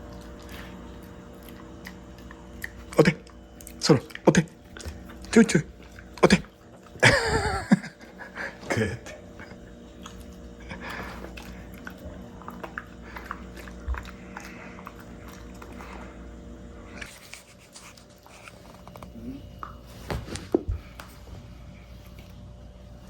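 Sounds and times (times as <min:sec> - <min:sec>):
dogs crunching treats: 0:00.0 - 0:21.2.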